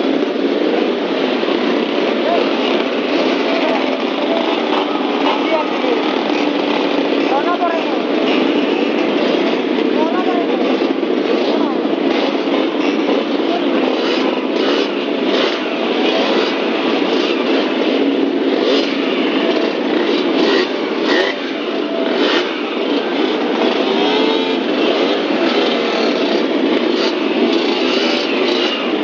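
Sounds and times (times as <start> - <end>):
old vehicle engine running: 0.0 - 29.0.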